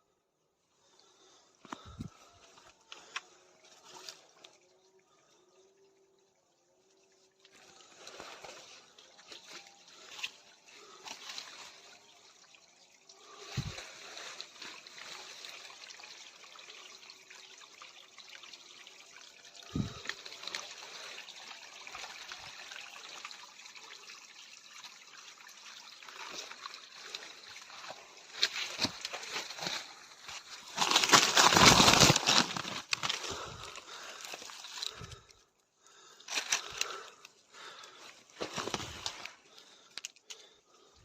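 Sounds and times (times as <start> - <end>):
water trickling: 0.7 - 31.0, 32.0 - 41.0.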